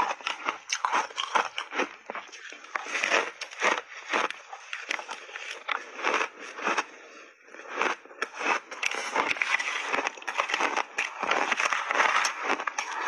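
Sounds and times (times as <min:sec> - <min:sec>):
ice crunching between teeth: 0:00.0 - 0:13.0.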